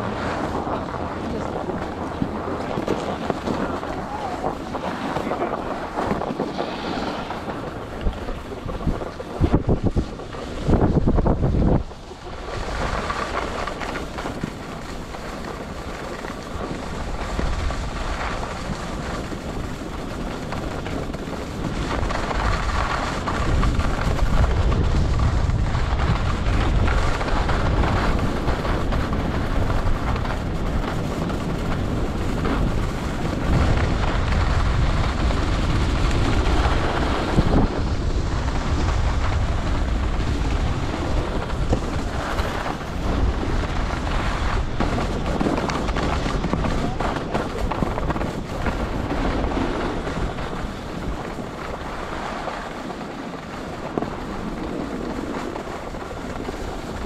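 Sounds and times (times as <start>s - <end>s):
skis scraping on snow: 0.0s - 57.0s
wind rushing over microphone: 0.0s - 57.0s.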